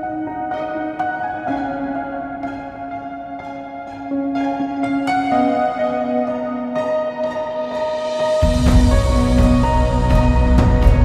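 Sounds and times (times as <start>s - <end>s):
soft slow chords music: 0.0s - 11.0s.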